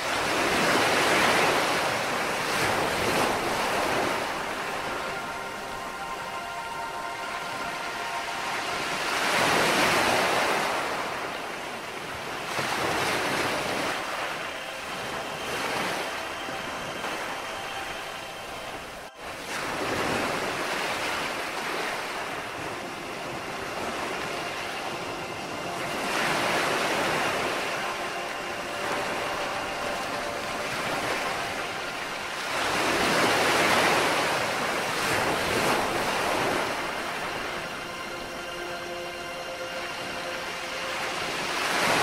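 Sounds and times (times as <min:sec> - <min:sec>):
ocean surf washing onto beach: 0:00.0 - 0:42.0.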